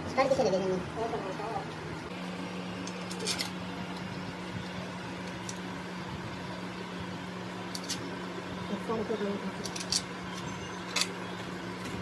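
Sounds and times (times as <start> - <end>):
low hum of fan: 0.0 - 12.0.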